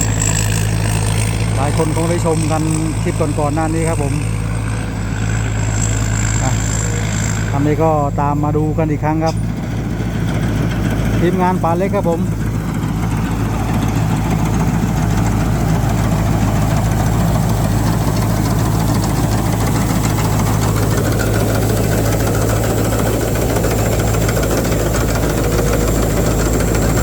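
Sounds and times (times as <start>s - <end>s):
clatter of threshing machinery: 0.0s - 27.0s
engine low hum: 0.0s - 27.0s.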